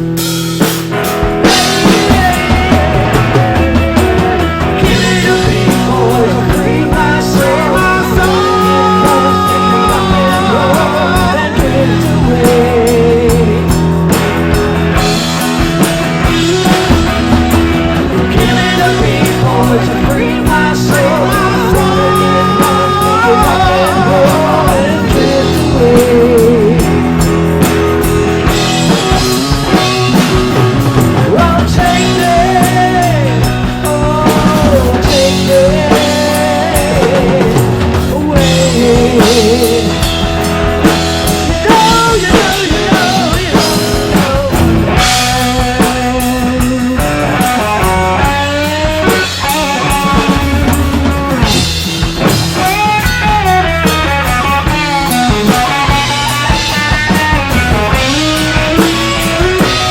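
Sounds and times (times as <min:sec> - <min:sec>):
lead guitar bending notes: 0:00.0 - 0:59.9
rock band playing: 0:00.0 - 0:59.9.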